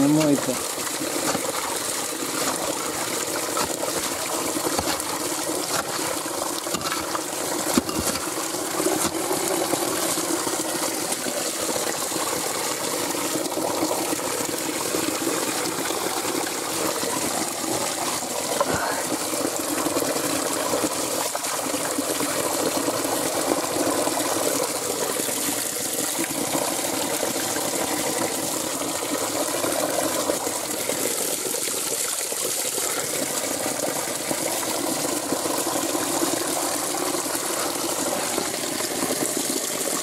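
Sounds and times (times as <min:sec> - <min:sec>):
water running over gravel: 0:00.0 - 0:40.0.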